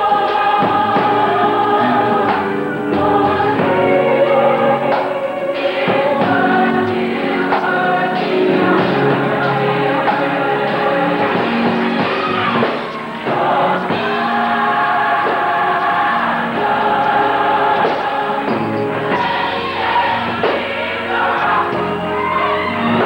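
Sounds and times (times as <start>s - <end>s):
gospel choir singing: 0.0s - 23.0s.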